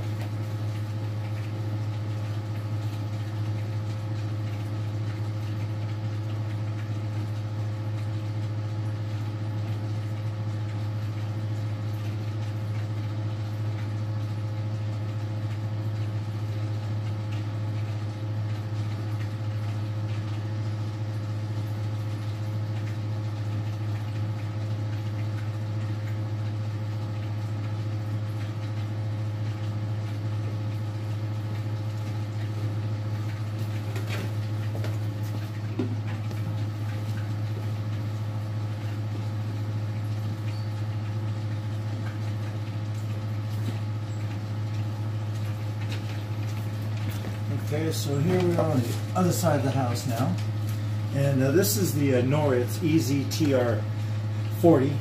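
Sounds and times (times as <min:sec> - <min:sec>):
electric pump humming: 0:00.0 - 0:55.0.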